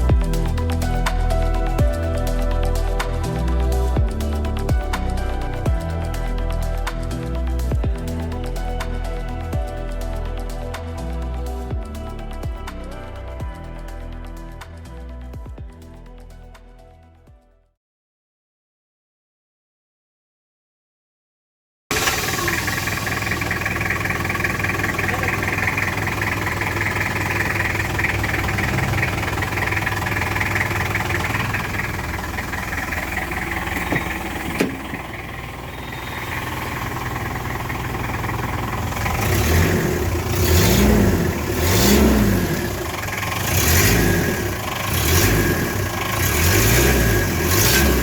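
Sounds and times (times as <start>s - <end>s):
car engine idling and revving: 0.0s - 15.7s, 21.9s - 48.0s.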